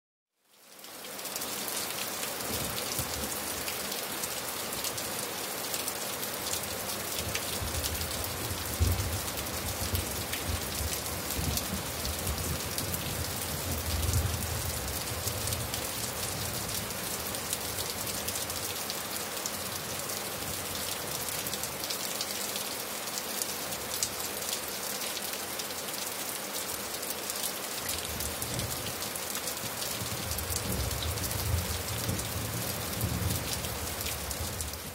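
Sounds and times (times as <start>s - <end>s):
rain pattering on surfaces: 0.4s - 34.9s.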